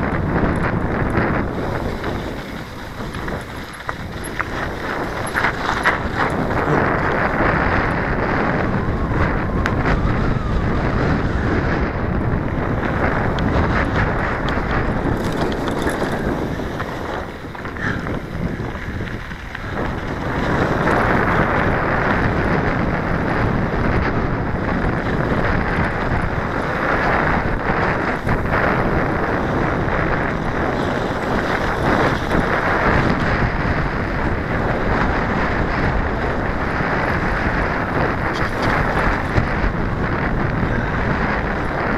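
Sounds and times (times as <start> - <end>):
bike rattling: 0.0 - 41.9
tyres on dirt trail: 0.0 - 41.9
wind buffeting microphone: 0.0 - 41.9.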